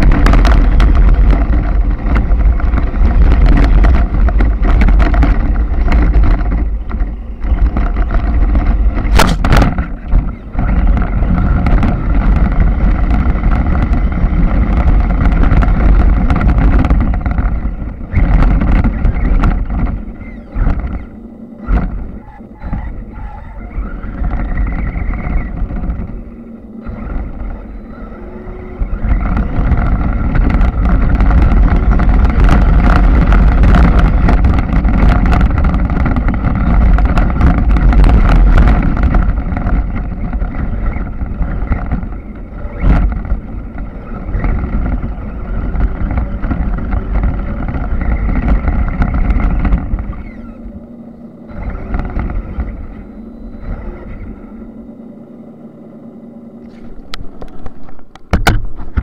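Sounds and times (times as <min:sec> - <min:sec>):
rc car motor: 0:00.0 - 0:58.3
tyres rumbling and crackling: 0:00.0 - 0:59.0.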